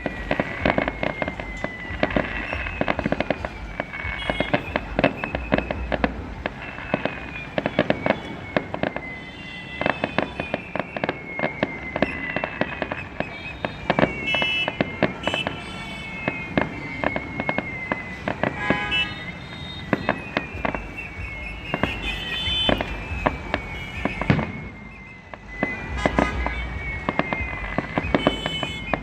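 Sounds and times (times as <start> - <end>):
descending firework whistle: 0.0 - 29.0
fireworks cracking and popping: 0.0 - 29.0.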